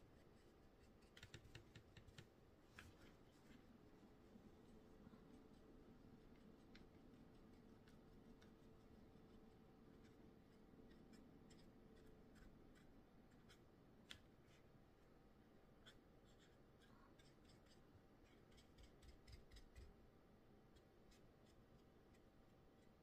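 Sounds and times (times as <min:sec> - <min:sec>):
paintbrush tapping and scratching: 0:00.0 - 0:14.6, 0:15.8 - 0:20.0, 0:20.7 - 0:23.0.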